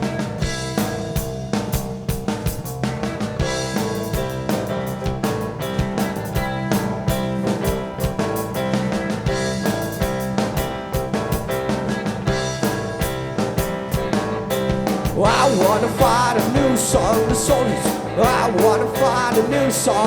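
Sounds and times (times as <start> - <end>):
drum kit steady beat: 0.0 - 20.0
rock band playing live: 0.0 - 20.0.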